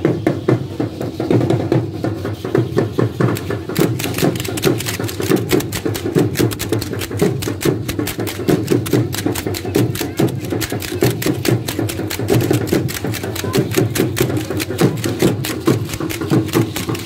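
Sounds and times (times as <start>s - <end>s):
drum steady beat: 0.0s - 17.0s
metal-soled sandals stamping on pavement: 1.0s - 17.0s.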